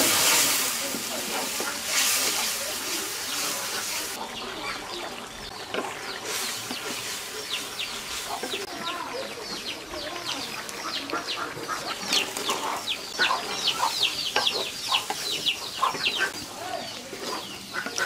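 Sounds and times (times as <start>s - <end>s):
food sizzling in oil: 0.0s - 18.0s
thick curry bubbling and popping: 0.0s - 18.0s.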